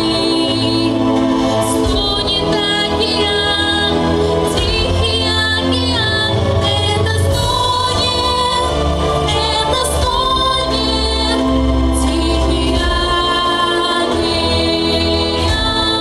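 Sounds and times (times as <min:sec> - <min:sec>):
recorded musical backing: 0:00.0 - 0:16.0
women singing: 0:00.0 - 0:16.0.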